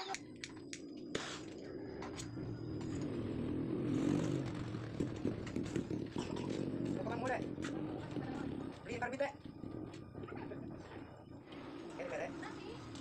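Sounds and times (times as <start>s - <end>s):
welding torch flame rumbling: 1.1s - 13.0s.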